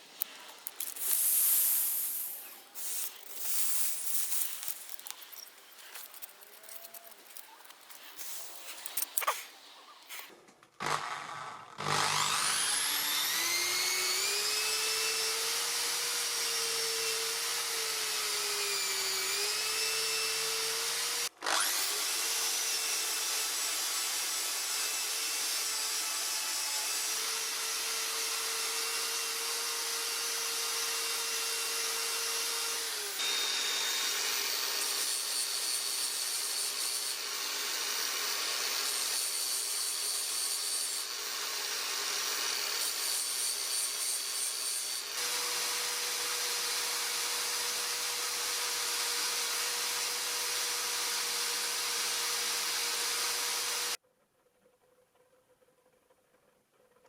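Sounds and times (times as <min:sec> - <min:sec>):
power tool whining: 0:00.0 - 0:09.5, 0:10.8 - 0:54.0.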